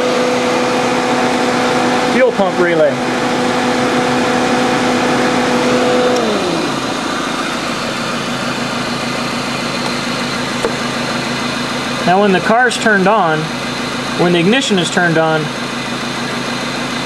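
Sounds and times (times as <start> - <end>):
car engine running: 0.0 - 17.0
engine whine dropping in pitch: 0.0 - 17.0.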